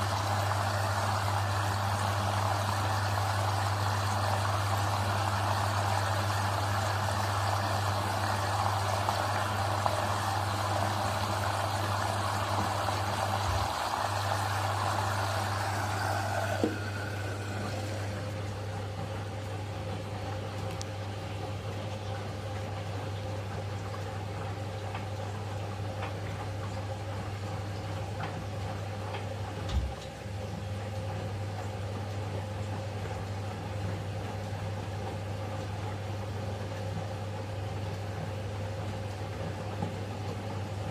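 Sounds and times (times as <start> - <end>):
washing machine hum: 0.0 - 40.9
water rushing into washing machine: 0.0 - 40.9.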